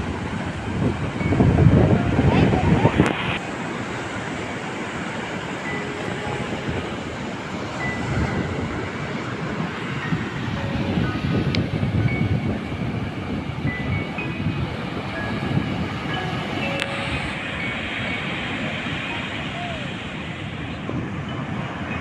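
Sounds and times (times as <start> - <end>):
surf washing on shore: 0.0 - 22.0
wind rumble on microphone: 0.0 - 22.0.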